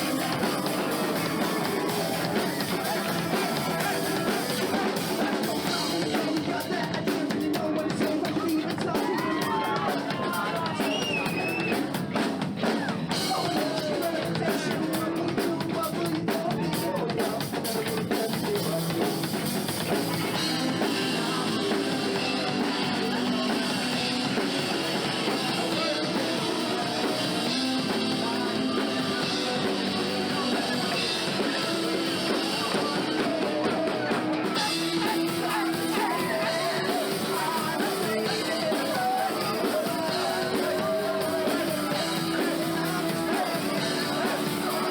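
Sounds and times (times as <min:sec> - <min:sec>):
electric guitar: 0:00.0 - 0:16.0, 0:17.4 - 0:44.9
bass guitar: 0:00.0 - 0:44.9
drum kit: 0:00.0 - 0:44.9
keyboard: 0:00.0 - 0:44.9
person singing: 0:00.0 - 0:44.9.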